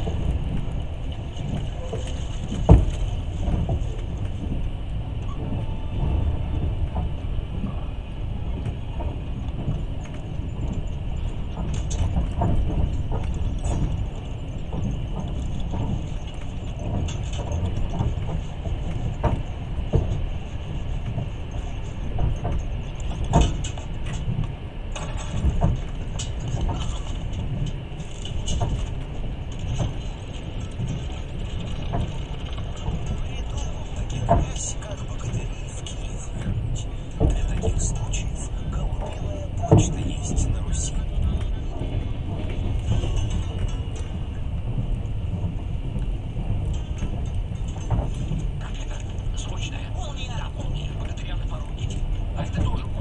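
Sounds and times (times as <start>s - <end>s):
knocks and clicks from carriage: 0.0s - 53.0s
train wheels rumbling on rails: 0.0s - 53.0s.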